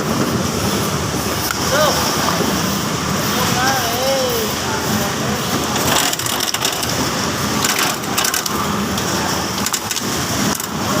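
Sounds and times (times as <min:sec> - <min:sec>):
coconut shelling machine running: 0:00.0 - 0:11.0.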